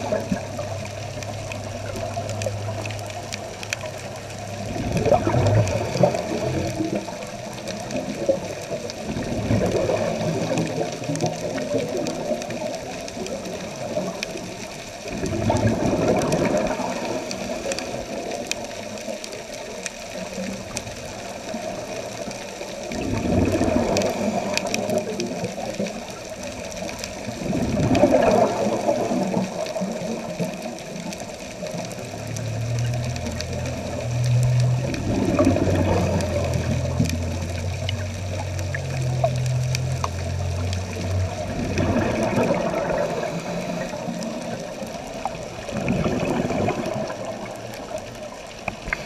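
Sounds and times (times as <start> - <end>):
underwater bubbles rushing: 0.0 - 49.0.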